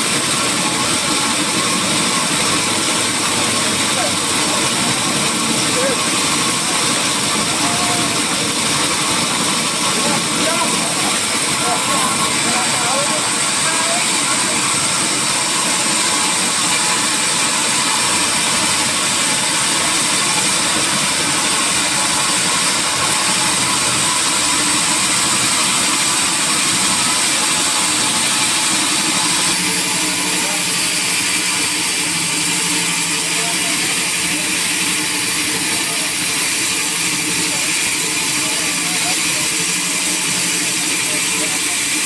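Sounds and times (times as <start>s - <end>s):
sawmill machinery running: 0.0s - 42.0s.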